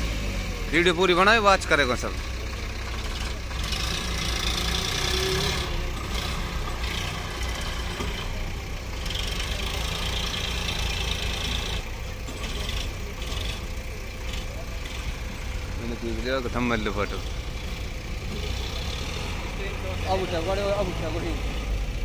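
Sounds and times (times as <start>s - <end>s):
diesel engines running: 0.0s - 22.0s.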